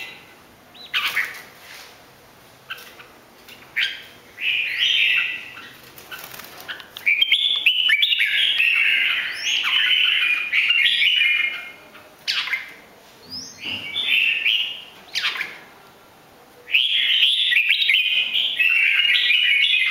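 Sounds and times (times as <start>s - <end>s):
bird warbling song: 0.0s - 1.4s, 2.7s - 15.7s, 16.7s - 19.9s.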